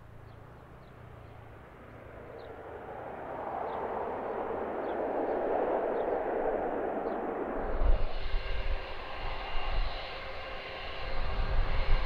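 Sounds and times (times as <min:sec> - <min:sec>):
jet aircraft engine rushing: 0:01.4 - 0:12.0.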